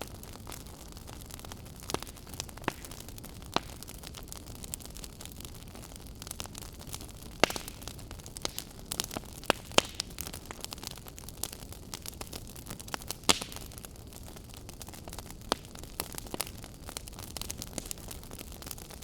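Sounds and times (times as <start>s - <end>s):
fireplace fire crackling and popping: 0.0s - 19.0s.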